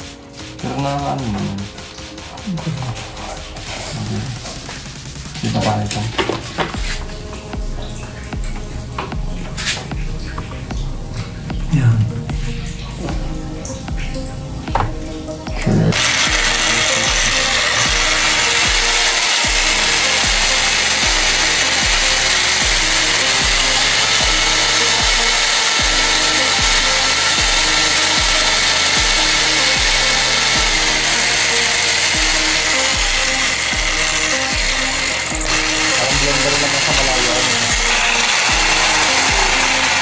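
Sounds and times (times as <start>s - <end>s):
electric drill cutting plastic: 0.0s - 8.6s, 14.1s - 40.0s.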